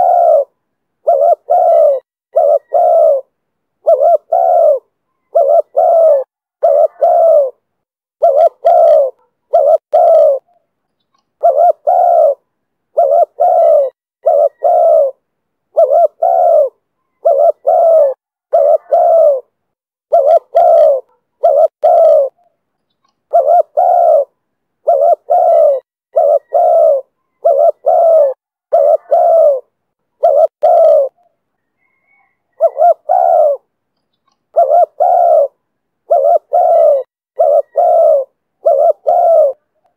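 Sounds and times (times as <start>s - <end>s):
dove cooing: 0.0s - 10.6s, 11.4s - 22.5s, 23.3s - 33.7s, 34.5s - 39.9s.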